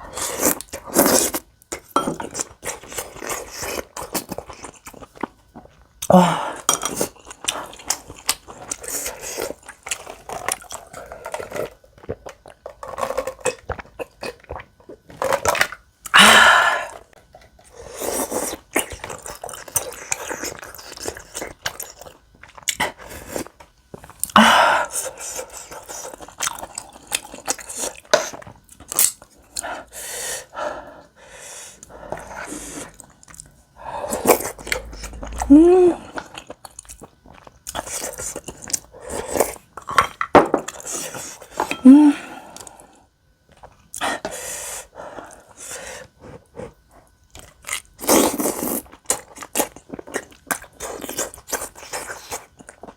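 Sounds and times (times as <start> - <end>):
person chewing food: 0.0 - 29.8, 31.6 - 41.9, 45.1 - 52.9.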